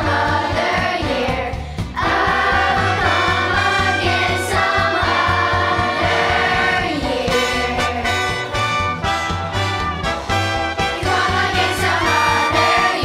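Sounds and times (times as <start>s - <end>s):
children's choir singing: 0.0s - 8.4s, 10.9s - 13.0s
instrumental accompaniment with beat: 0.0s - 13.0s.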